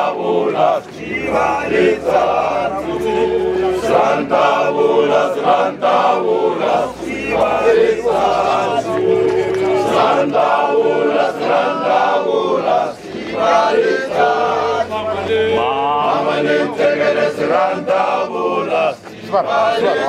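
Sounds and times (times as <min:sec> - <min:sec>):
men chanting and singing: 0:00.0 - 0:20.0.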